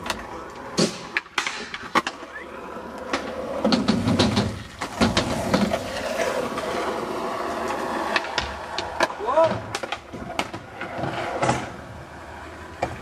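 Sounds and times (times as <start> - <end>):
skateboard clicks and knocks: 0.0 - 13.0
skateboard wheels rolling on concrete: 0.0 - 13.0.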